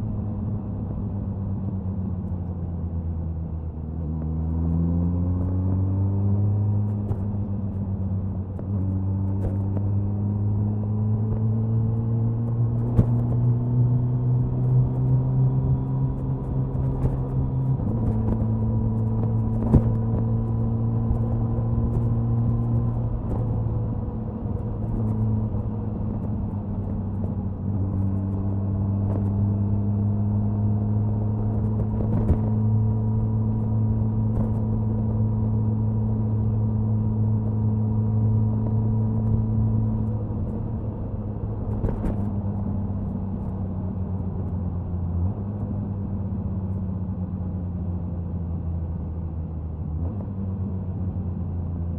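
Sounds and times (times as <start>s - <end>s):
motorcycle engine cruising: 4.2s - 46.8s.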